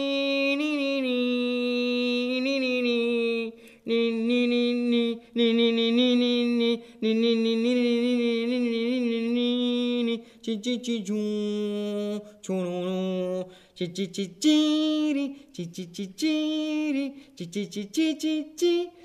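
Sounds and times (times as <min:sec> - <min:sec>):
person singing wordlessly: 0:00.0 - 0:19.0.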